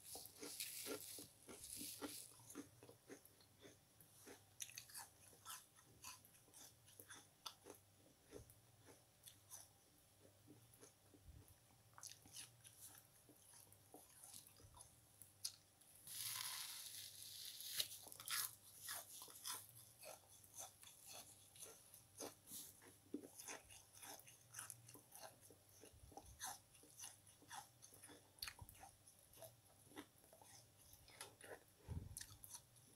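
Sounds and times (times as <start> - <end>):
person chewing sponge crunching: 0.0 - 32.9.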